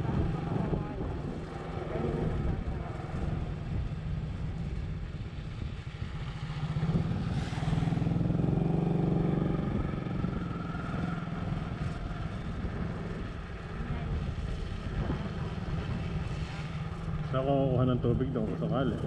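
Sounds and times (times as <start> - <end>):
motorcycle engine running: 0.0 - 19.0
wind noise: 0.0 - 19.0.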